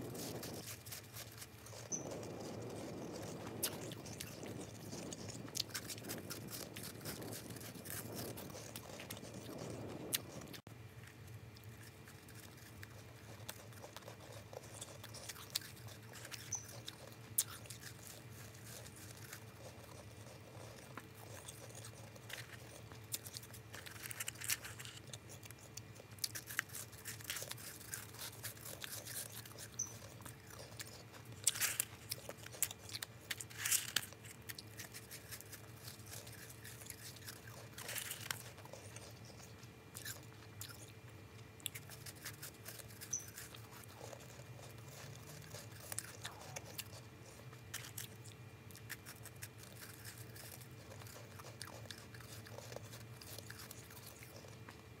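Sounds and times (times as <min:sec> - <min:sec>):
crunching of ice being chewed: 0:00.0 - 0:55.0.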